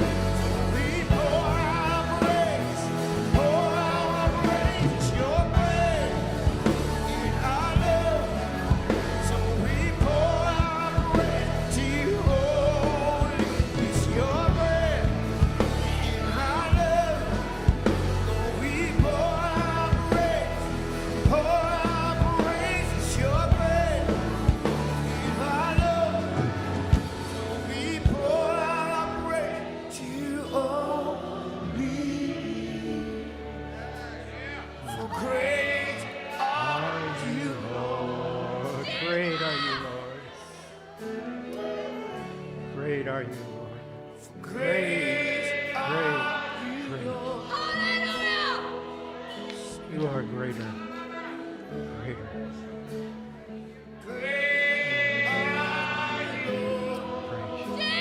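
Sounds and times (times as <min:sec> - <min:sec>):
person singing: 0:00.0 - 0:58.0
worship band playing: 0:00.0 - 0:58.0.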